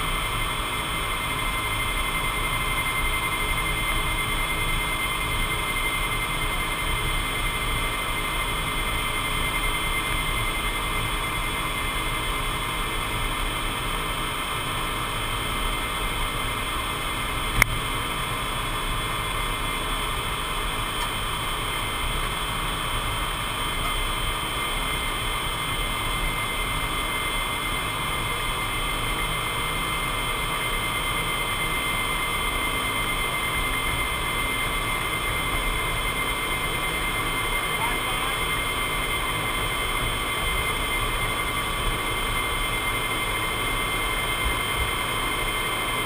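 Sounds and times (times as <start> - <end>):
jet engines and airflow: 0.0 - 46.0
steady high whine: 0.0 - 46.0.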